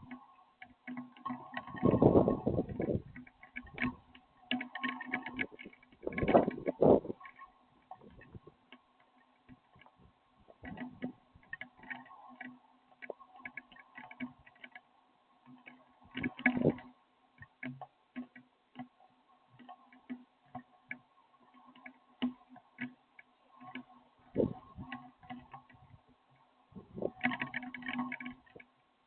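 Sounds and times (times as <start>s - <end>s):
raindrops tapping on hard surface: 0.0s - 14.8s, 15.4s - 26.2s, 26.8s - 28.8s
faint steady hum: 0.0s - 29.0s.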